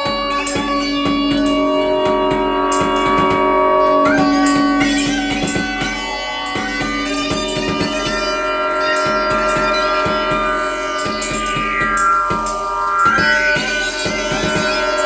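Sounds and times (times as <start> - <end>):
percussive ticks: 0.0 - 15.0
synthesizer drone notes: 0.1 - 15.0.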